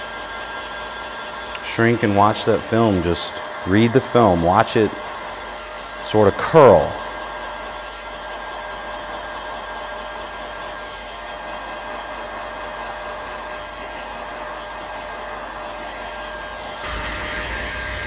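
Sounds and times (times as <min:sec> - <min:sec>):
heat gun blowing air: 0:00.0 - 0:18.0.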